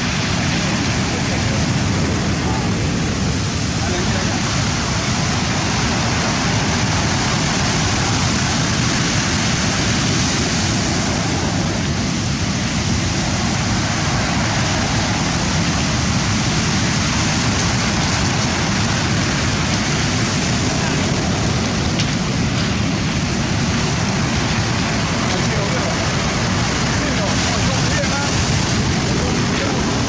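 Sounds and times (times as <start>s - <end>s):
rough sea surf: 0.0s - 30.0s.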